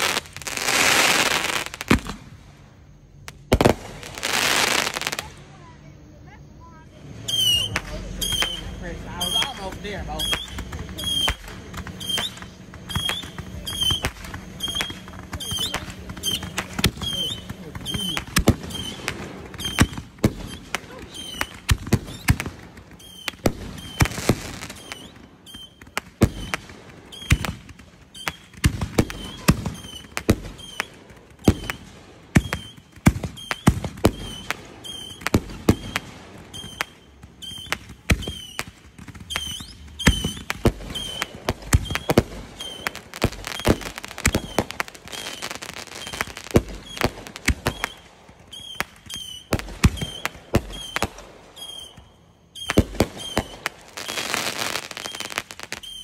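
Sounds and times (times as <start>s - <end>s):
fireworks bangs and pops: 0.0s - 56.0s.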